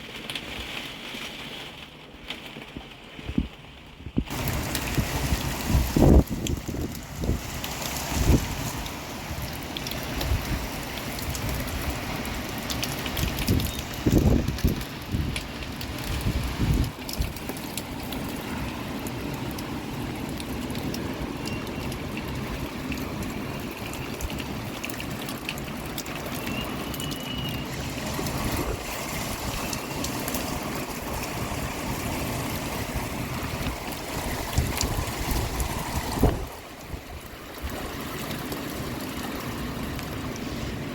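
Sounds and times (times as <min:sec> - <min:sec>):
rainwater running and gurgling: 0:04.2 - 0:40.9
heavy rain hissing: 0:04.3 - 0:40.9.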